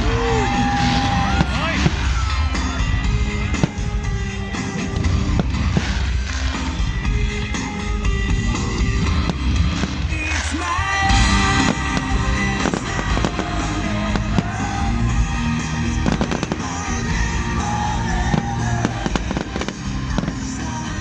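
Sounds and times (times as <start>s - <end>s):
loud music with sustained notes: 0.0s - 21.0s
fireworks bangs: 0.2s - 7.7s, 8.9s - 21.0s.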